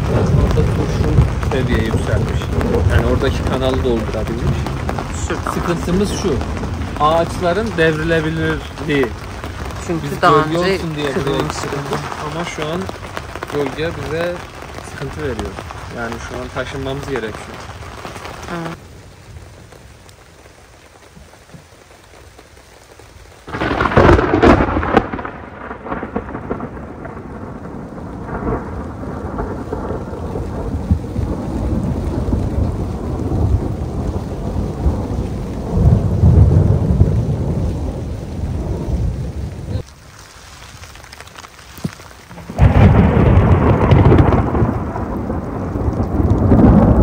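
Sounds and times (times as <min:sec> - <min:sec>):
thunder rumbling: 0:00.0 - 0:21.8, 0:23.4 - 0:39.9, 0:40.8 - 0:47.0
rain falling: 0:00.0 - 0:47.0.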